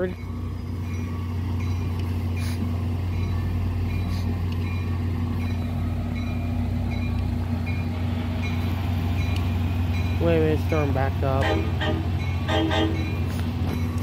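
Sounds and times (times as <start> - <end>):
diesel locomotive idling: 0.0 - 14.0.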